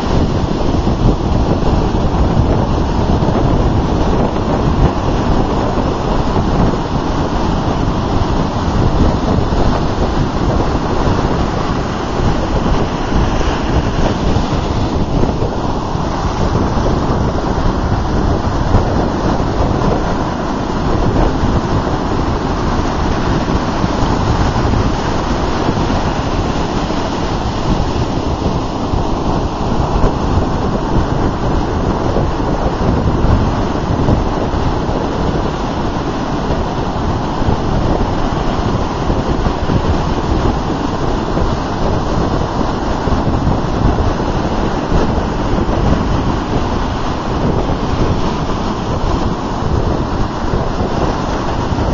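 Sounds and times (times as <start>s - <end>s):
ocean surf breaking: 0.0s - 51.9s
wind rumbling on microphone: 0.0s - 51.9s.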